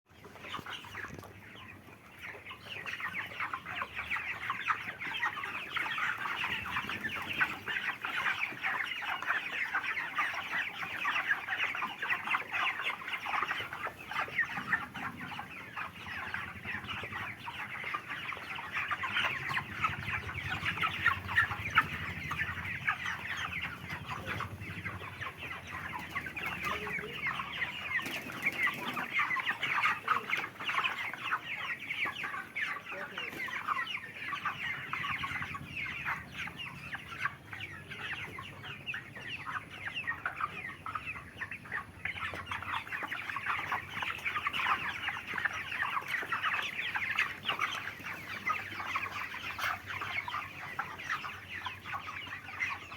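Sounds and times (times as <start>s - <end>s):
chickens clucking and chirping: 0.0s - 52.9s.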